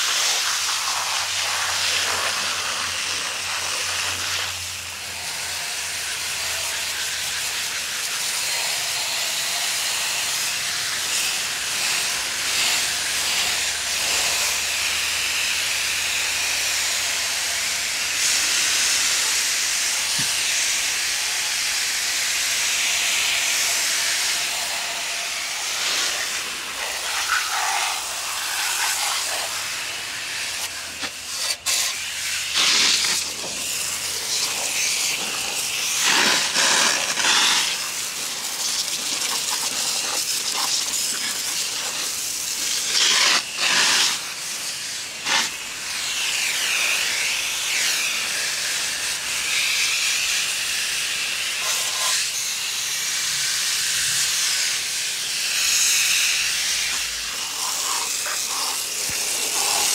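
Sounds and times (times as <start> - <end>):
hose water spraying metal fins: 0.0 - 59.9.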